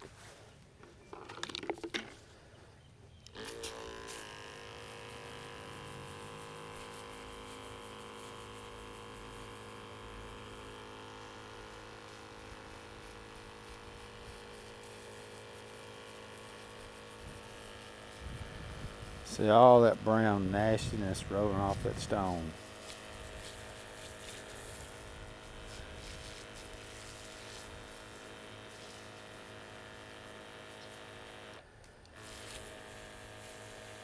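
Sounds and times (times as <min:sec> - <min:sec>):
electric sprayer motor: 0:03.2 - 0:34.0.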